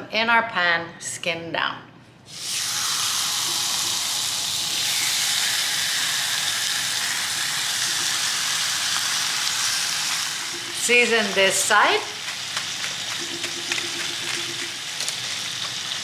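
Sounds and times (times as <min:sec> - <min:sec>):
chicken sizzling in frying pan: 0:02.3 - 0:16.0.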